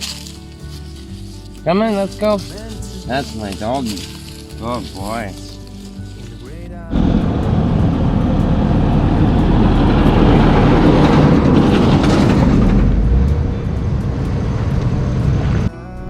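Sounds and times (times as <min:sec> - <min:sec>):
vehicle road and engine rumble: 0:00.0 - 0:15.7.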